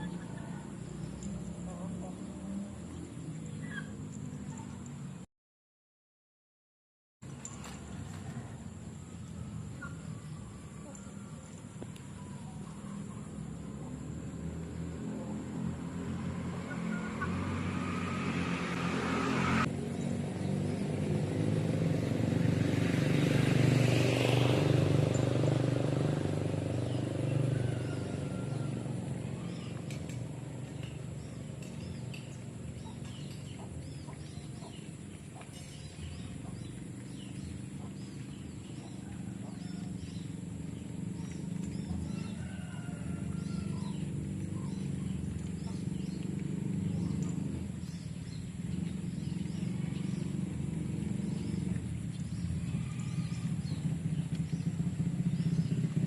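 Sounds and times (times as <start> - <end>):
outdoor ambience: 0.0 - 5.3, 7.2 - 56.0
vehicle passing by: 0.0 - 5.3, 7.3 - 56.0.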